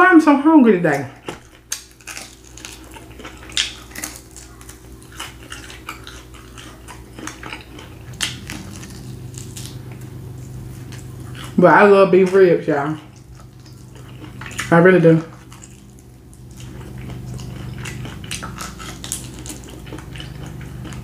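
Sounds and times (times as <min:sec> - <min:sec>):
chewing and crunching meat: 0:00.9 - 0:21.0
low hum: 0:01.4 - 0:21.0.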